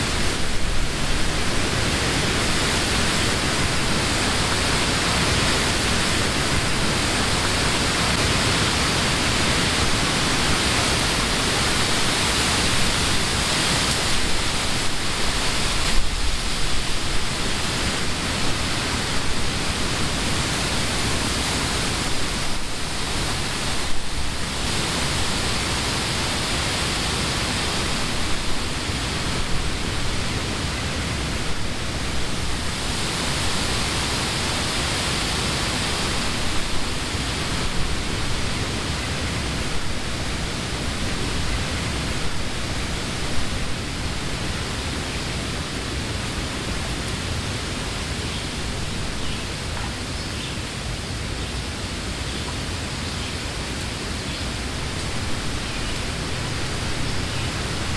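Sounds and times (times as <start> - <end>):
wind through tree leaves: 0.0 - 57.9.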